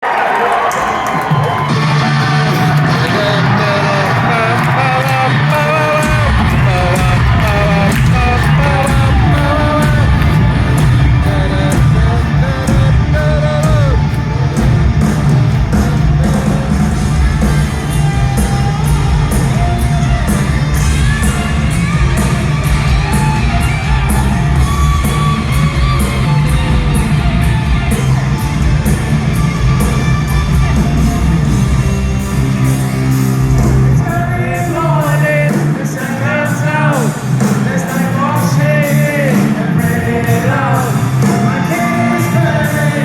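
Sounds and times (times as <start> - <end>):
crowd voices: 0.0 - 43.0
hard rock band playing live: 1.0 - 43.0
heavy bass and drums: 1.3 - 43.0.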